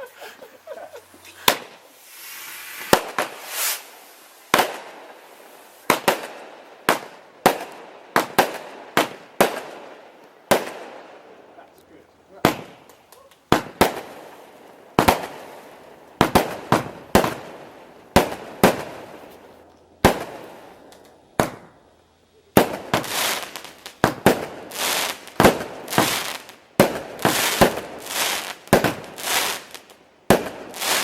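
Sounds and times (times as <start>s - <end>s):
fireworks bangs and crackles: 1.2s - 11.6s, 12.3s - 31.0s.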